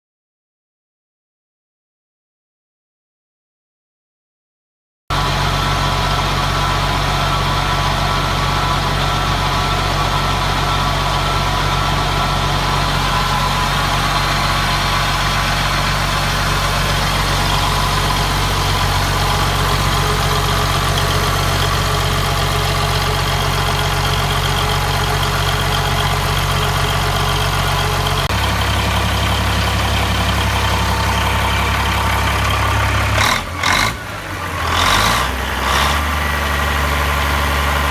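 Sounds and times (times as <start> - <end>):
grinder engine running: 5.1 - 37.9.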